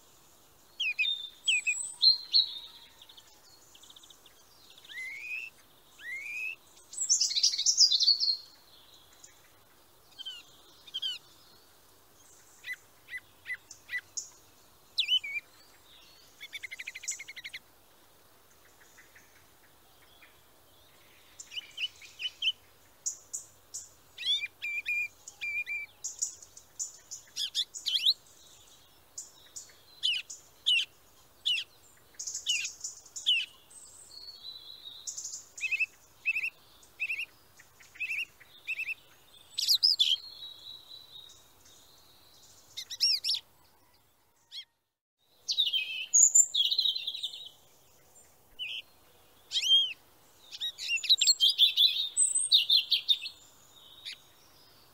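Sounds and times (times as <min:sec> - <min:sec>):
songbirds chirping and singing: 0:00.0 - 0:54.9.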